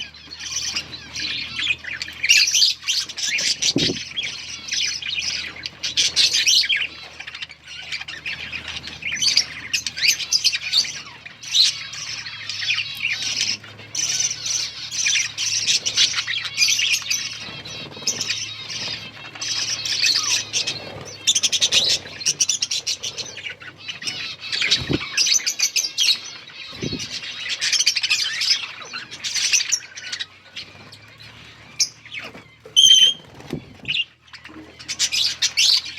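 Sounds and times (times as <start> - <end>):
budgerigars chirping and chattering: 0.0 - 35.9.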